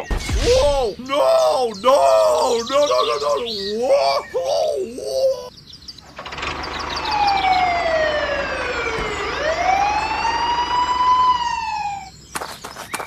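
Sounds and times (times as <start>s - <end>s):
siren wailing: 0.0s - 5.5s, 6.3s - 12.2s.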